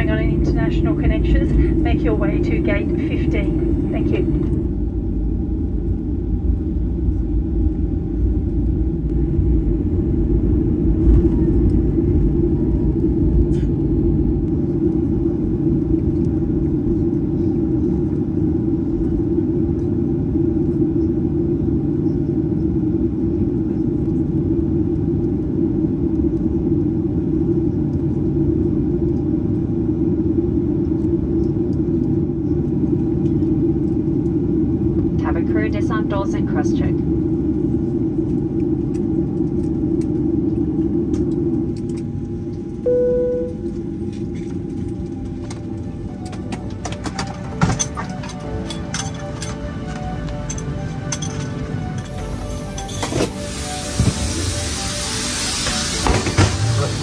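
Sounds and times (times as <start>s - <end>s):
airplane cabin rumble: 0.0s - 57.0s
faint engine hum: 0.0s - 57.0s.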